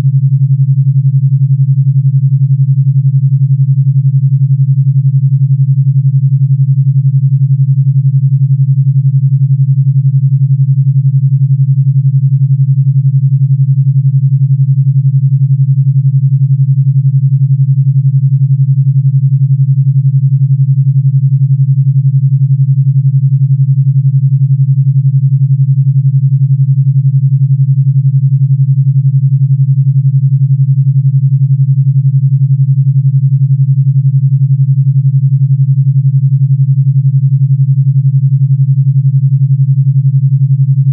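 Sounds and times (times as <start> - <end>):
pulsing low sine tone: 0.0 - 40.9.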